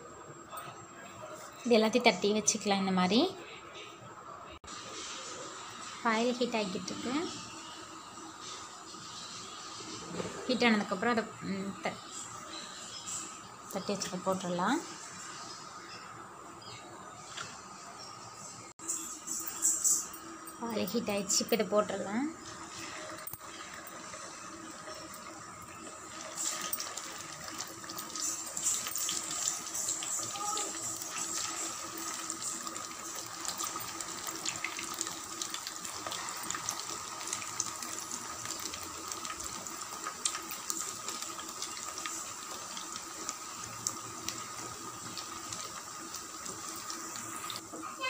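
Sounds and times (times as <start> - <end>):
deep-frying sizzle and crackle: 4.7 - 48.0.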